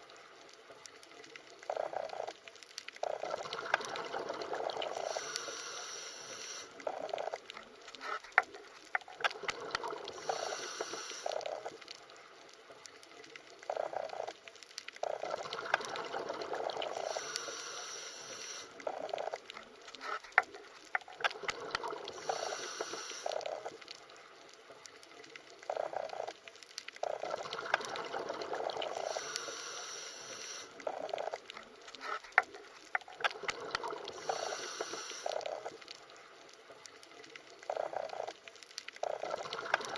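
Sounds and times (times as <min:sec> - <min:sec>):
small clicks: 0:00.0 - 0:04.0, 0:04.9 - 0:16.0, 0:16.8 - 0:28.2, 0:28.8 - 0:39.9
bubbling: 0:00.0 - 0:39.9.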